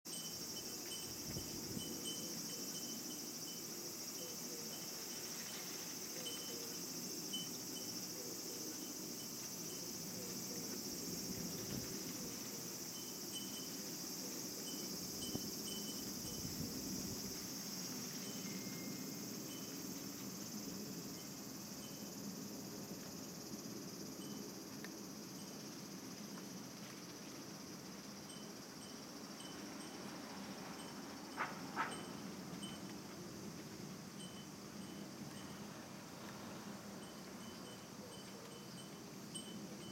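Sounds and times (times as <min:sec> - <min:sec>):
high-pitched insect chorus: 0:00.1 - 0:39.9
insect chirps: 0:00.1 - 0:39.9.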